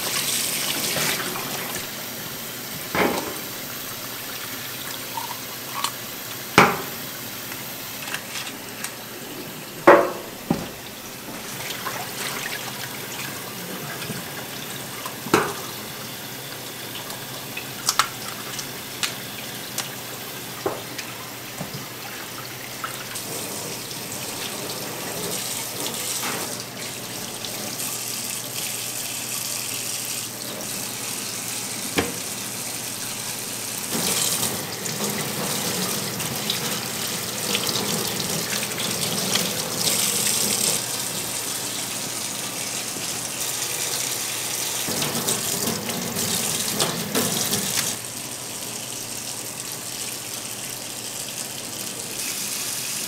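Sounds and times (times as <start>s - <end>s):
tap water running into sink: 0.0s - 8.6s, 9.4s - 48.0s.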